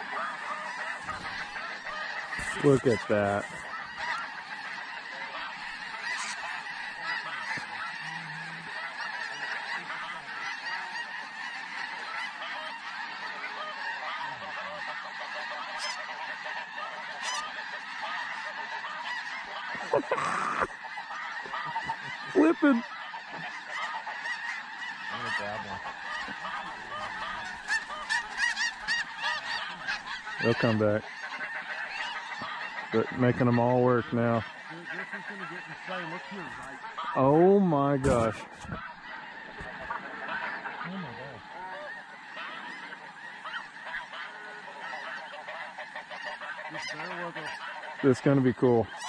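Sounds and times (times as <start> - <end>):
flock of geese honking: 0.0 - 49.0
nearer goose calls: 0.0 - 49.0.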